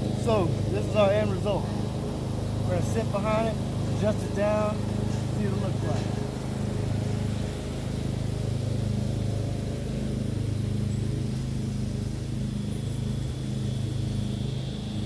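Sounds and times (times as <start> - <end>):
low pulsing mechanical hum: 0.0 - 15.0.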